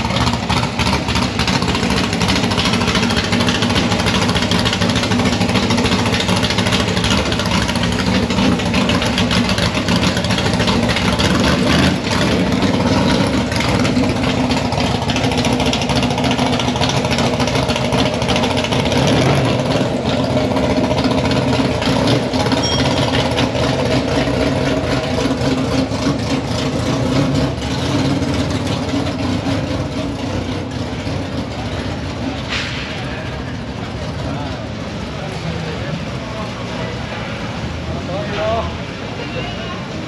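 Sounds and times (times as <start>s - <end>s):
car engines idling: 0.0s - 40.0s.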